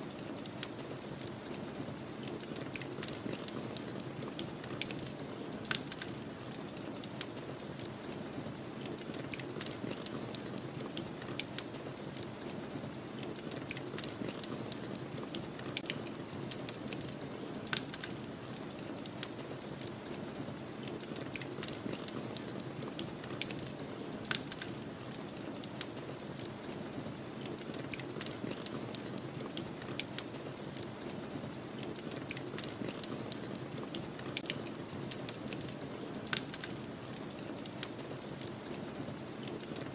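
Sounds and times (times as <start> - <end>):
wood fire crackling and popping: 0.1 - 39.9.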